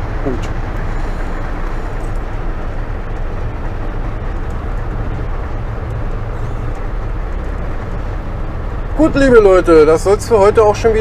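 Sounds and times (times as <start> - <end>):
car engine droning: 0.0 - 11.0
tyre and road noise: 0.0 - 11.0.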